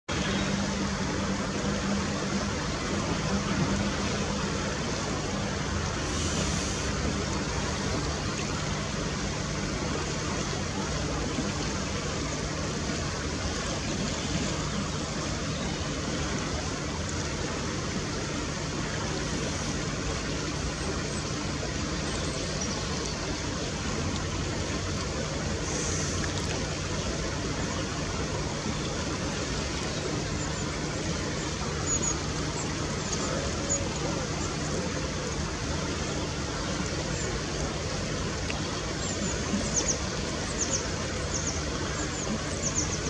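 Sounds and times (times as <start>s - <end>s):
low hum: 0.0s - 43.0s
steady rushing noise: 0.0s - 43.0s.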